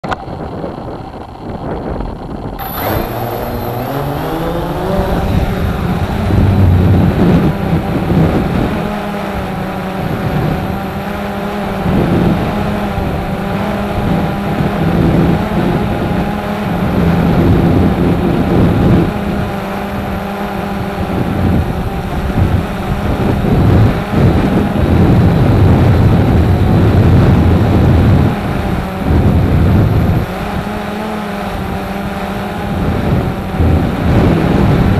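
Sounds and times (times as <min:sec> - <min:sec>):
strong wind howling: 0:00.0 - 0:34.9.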